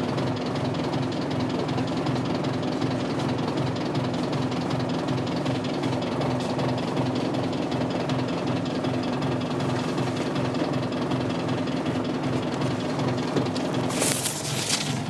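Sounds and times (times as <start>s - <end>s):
diesel bus engine idling unevenly: 0.0s - 15.0s.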